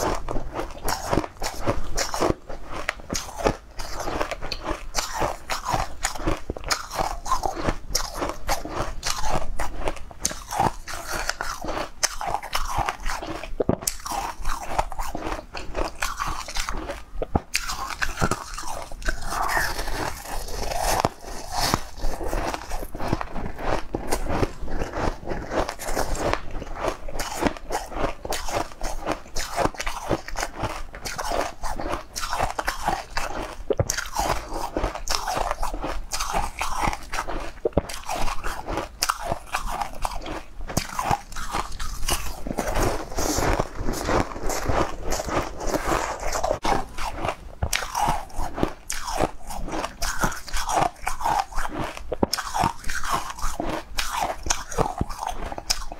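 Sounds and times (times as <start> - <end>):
crisp chewing crunches: 0.0 - 55.9.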